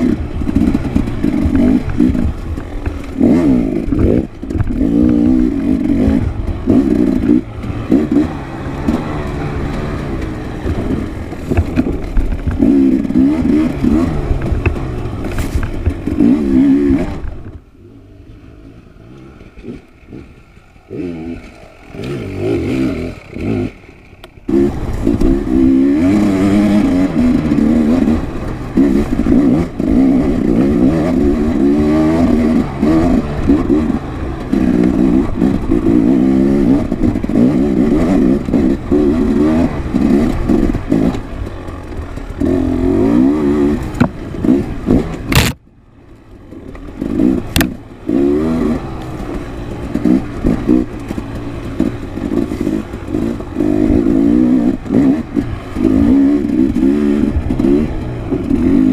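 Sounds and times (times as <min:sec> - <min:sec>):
dirt bike engine revving: 0:00.0 - 0:45.6, 0:46.3 - 0:58.9.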